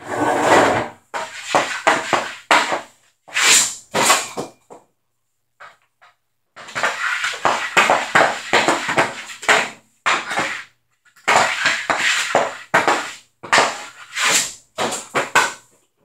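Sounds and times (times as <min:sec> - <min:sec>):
hockey stick tapping ball and floor: 0:00.5 - 0:04.9, 0:05.6 - 0:15.8.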